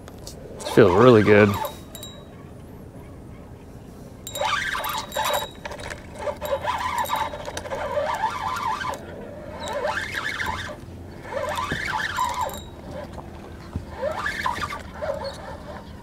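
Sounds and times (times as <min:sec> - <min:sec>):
fishing reel whining: 0:00.6 - 0:02.5, 0:04.3 - 0:16.0.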